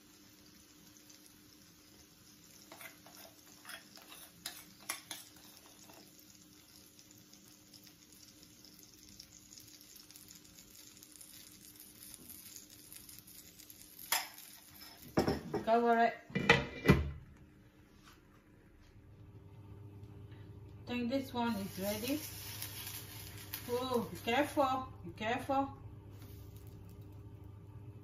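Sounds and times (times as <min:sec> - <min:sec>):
water sizzling in a frying pan: 0:00.0 - 0:16.1, 0:20.8 - 0:28.0.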